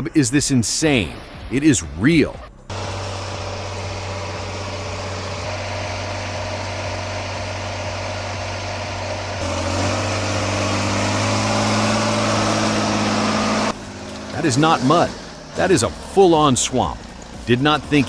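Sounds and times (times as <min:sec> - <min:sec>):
heavy vehicle engine straining: 0:02.4 - 0:18.0.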